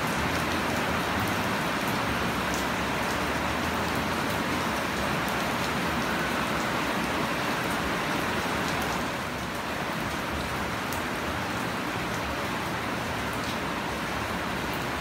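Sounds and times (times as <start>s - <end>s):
heavy rain on plants: 0.0s - 15.0s.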